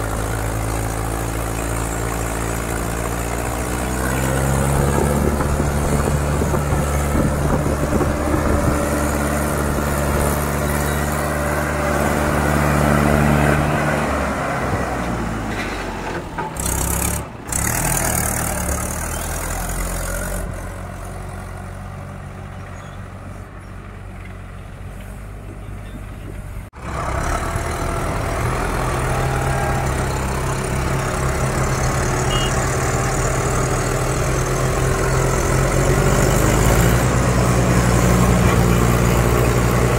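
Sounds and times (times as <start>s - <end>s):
diesel tractor engines straining: 0.0s - 39.9s.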